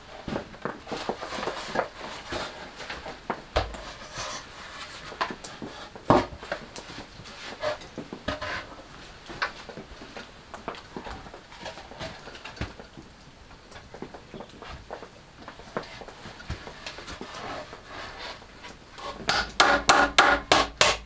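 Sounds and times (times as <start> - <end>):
wood knocking and scraping on wood: 0.2 - 21.0.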